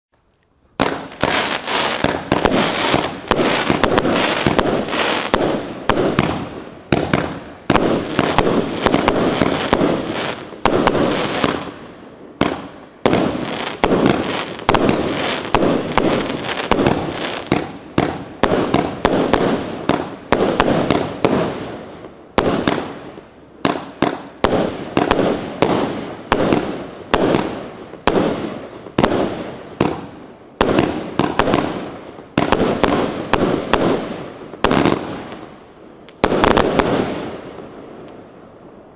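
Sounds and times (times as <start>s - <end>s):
fireworks shots firing: 0.8s - 11.8s, 12.4s - 21.8s, 22.4s - 23.0s, 23.6s - 35.4s, 36.1s - 37.8s.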